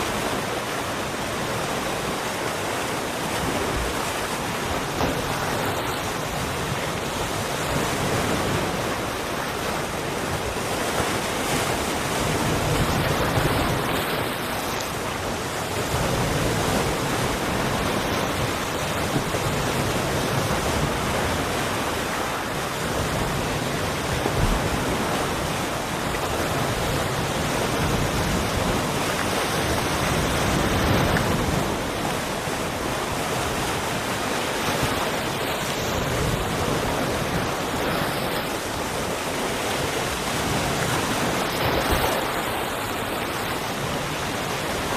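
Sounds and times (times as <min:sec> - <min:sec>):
sea waves breaking: 0:00.0 - 0:44.9
wind buffeting microphone: 0:03.5 - 0:44.9.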